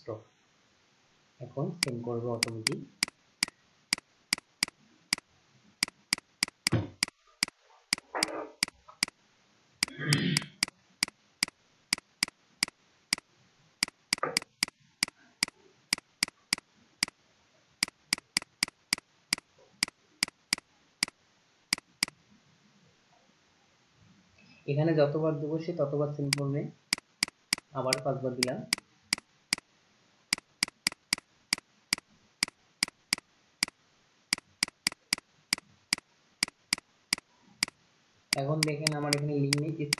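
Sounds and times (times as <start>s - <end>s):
sharp clicks: 1.8s - 9.2s, 9.8s - 17.2s, 17.8s - 22.2s, 26.3s - 29.7s, 30.3s - 39.9s.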